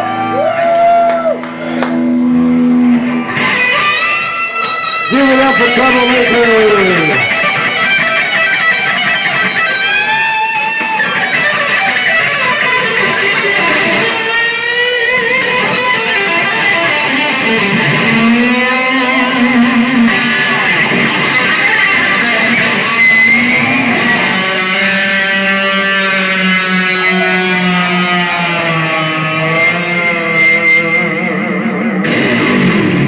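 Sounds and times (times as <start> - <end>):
electric guitar bending notes: 0.0 - 33.0.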